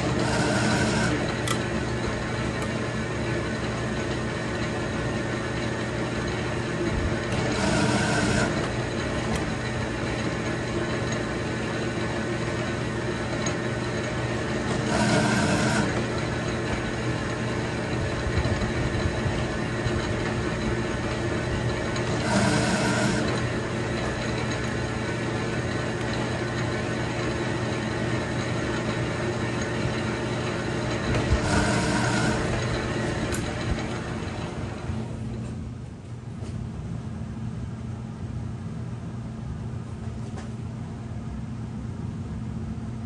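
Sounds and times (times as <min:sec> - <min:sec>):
metal lathe running: 0:00.0 - 0:35.6.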